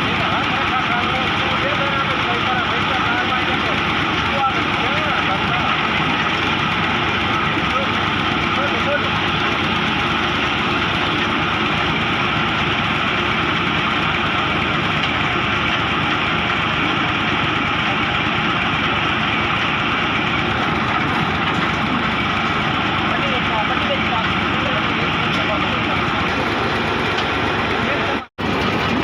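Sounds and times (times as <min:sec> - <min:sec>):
boring rig engine droning: 0:00.0 - 0:29.0.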